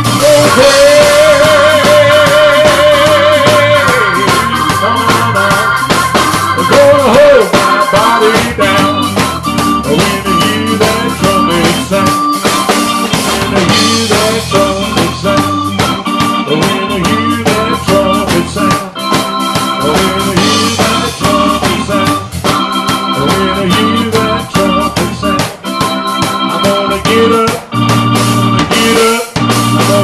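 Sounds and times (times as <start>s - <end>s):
drum kit beat: 0.0s - 30.0s
organ-toned electric keyboard: 0.0s - 30.0s.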